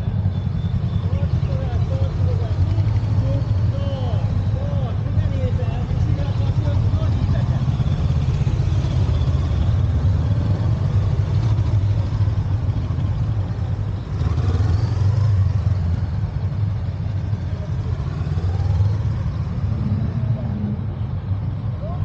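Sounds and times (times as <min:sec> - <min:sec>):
motorcycles rumbling at low speed: 0:00.0 - 0:22.0.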